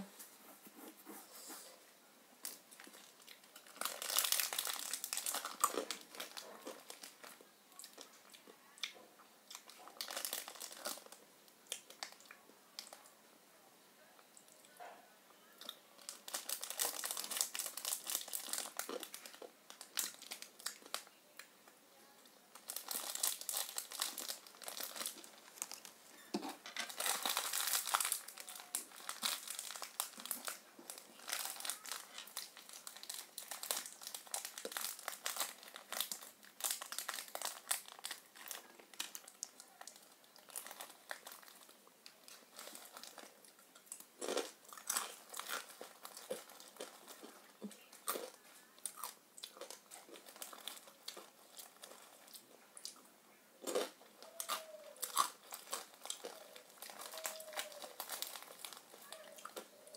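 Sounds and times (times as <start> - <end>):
crinkling crackling rustle: 2.4 - 13.1, 15.6 - 21.5, 22.2 - 59.9.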